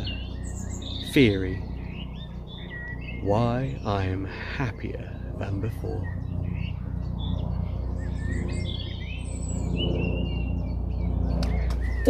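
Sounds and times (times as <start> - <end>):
low steady hum: 0.0 - 12.0
songbirds chirping and singing: 0.0 - 12.0.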